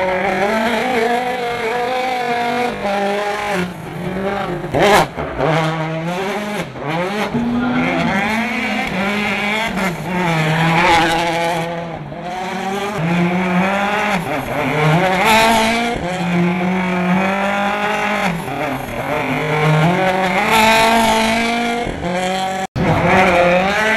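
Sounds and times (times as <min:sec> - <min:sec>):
rally car engine revving: 0:00.0 - 0:23.9.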